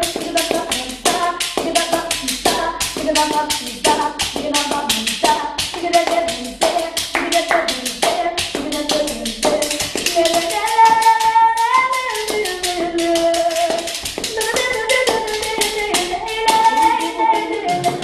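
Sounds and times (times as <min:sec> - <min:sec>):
boy singing: 0:00.0 - 0:18.0
hand claps: 0:00.0 - 0:18.0.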